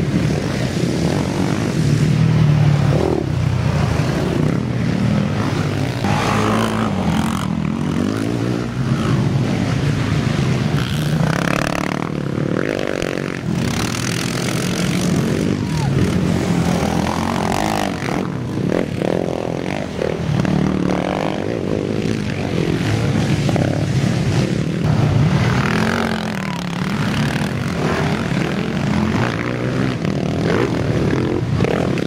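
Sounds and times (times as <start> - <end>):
quad engines revving: 0.0 - 32.0.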